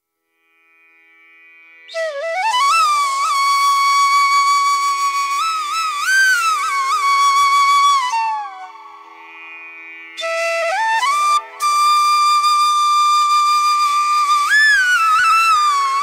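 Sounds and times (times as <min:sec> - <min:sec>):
solo flute slow melody: 0:01.9 - 0:09.2, 0:10.2 - 0:16.0.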